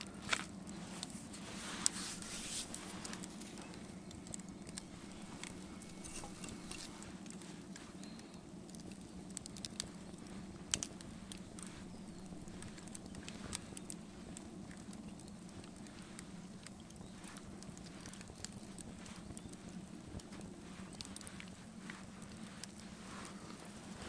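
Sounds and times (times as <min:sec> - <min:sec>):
campfire crackling and popping: 0:00.0 - 0:24.0
steady low hum: 0:00.0 - 0:24.0.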